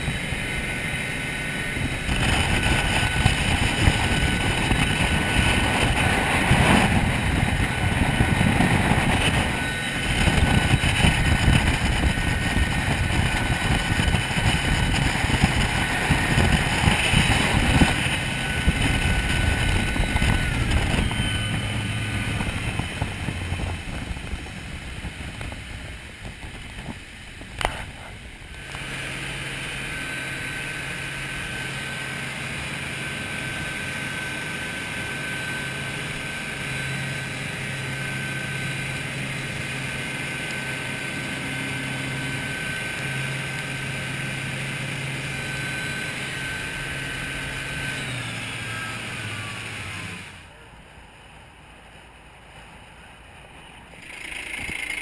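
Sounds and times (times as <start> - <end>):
rushing wind and water: 0.0 - 44.2
boat outboard engines running: 0.0 - 55.0.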